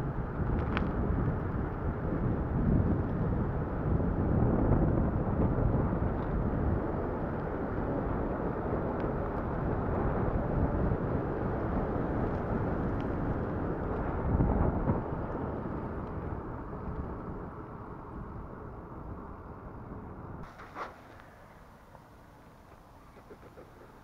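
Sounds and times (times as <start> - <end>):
road noise: 0.0 - 24.0
wind rushing over microphone: 0.0 - 24.0.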